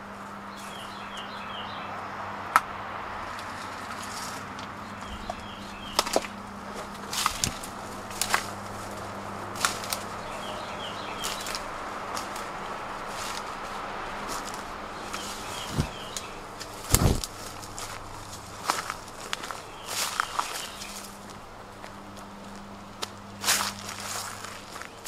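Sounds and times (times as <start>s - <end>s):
footsteps through undergrowth: 0.0s - 1.9s, 3.2s - 25.0s
birds chirping: 0.0s - 25.0s
low hum: 0.0s - 25.0s
twigs cracking: 2.5s - 25.0s.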